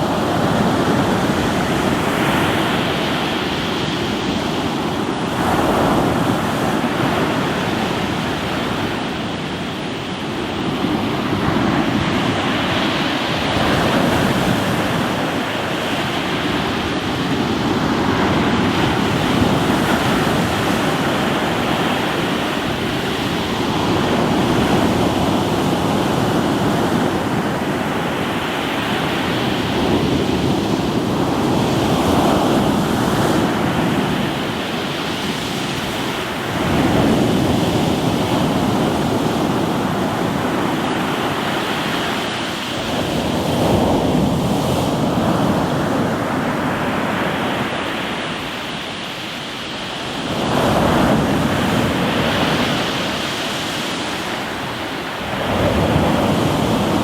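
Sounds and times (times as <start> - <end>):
waves washing onto rocky shore: 0.0 - 57.0.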